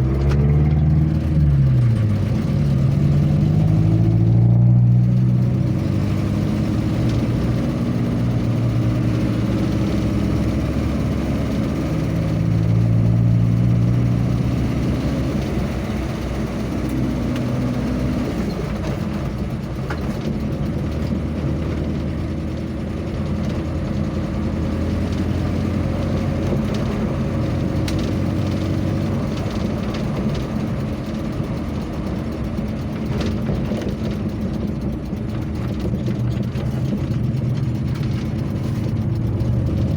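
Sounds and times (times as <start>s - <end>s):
road noise: 0.0s - 39.9s
vehicle engine revving: 0.0s - 39.9s.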